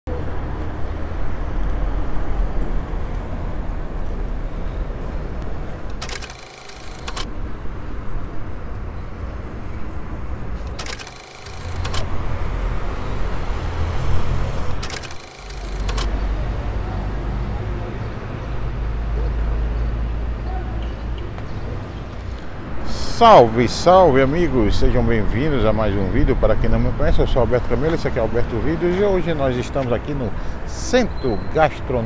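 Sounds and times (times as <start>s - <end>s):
road traffic rumble: 0.1s - 32.0s.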